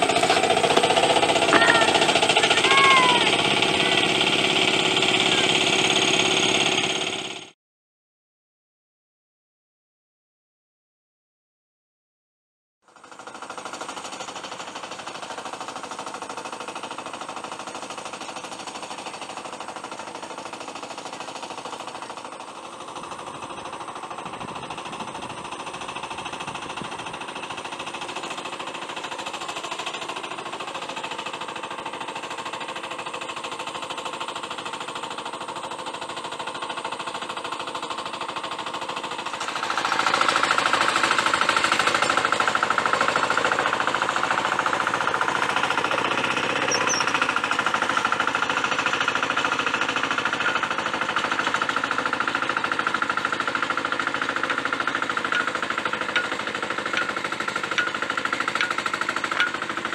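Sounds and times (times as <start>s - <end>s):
tractor engine chugging: 0.0s - 7.5s, 12.9s - 59.9s.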